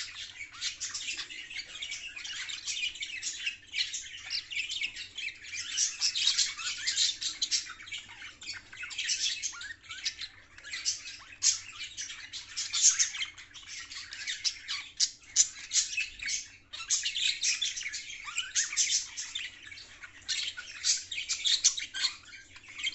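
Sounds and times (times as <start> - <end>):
budgerigars chattering and warbling: 0.0 - 22.9.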